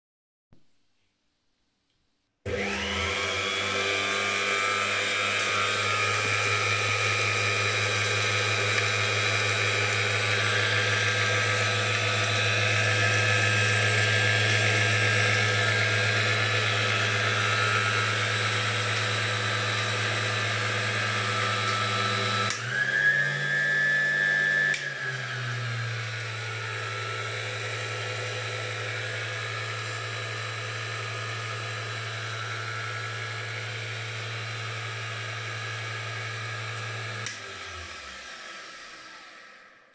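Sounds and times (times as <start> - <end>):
electric motor whining: 2.5 - 39.8.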